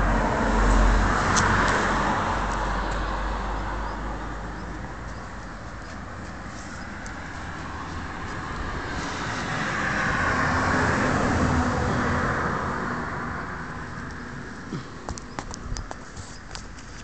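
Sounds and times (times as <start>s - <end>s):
vehicle passing by: 0.0s - 14.5s.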